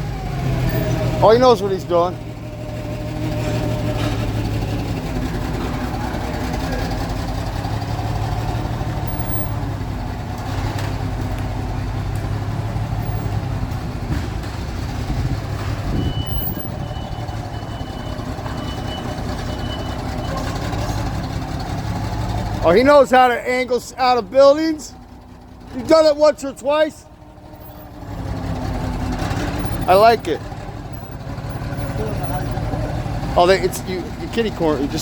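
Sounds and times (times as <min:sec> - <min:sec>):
forklift engine running: 0:00.0 - 0:35.0.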